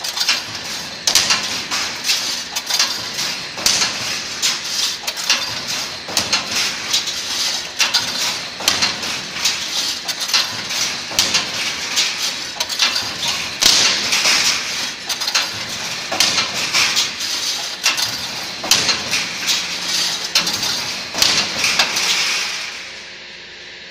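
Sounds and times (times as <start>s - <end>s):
welding machine clanks and crackles: 0.0s - 23.9s.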